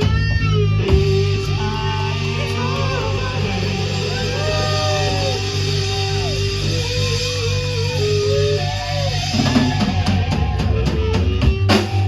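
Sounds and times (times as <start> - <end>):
bass: 0.0 - 12.0
drums and cymbal crashes: 0.0 - 12.0
electric guitar bending notes: 0.0 - 12.0.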